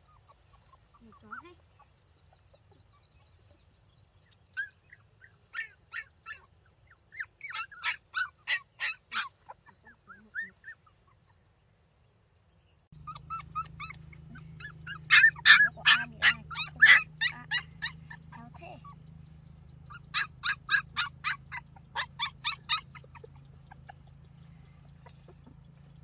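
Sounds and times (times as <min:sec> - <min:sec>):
puppies whimpering and yelping: 0:00.0 - 0:03.6, 0:04.3 - 0:11.4, 0:13.0 - 0:19.1, 0:19.8 - 0:26.0.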